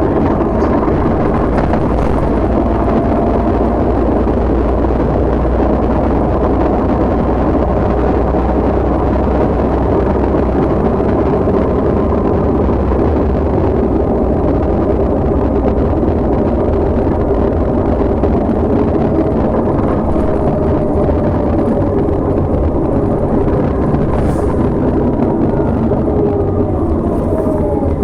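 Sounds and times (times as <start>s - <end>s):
diesel engine running: 0.0s - 28.0s
road and tyre noise: 0.0s - 28.0s.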